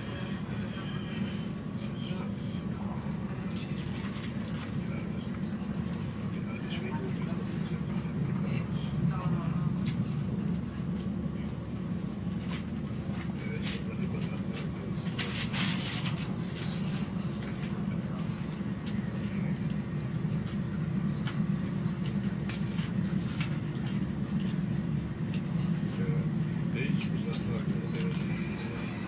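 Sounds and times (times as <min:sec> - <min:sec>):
train rumble inside carriage: 0:00.0 - 0:29.0.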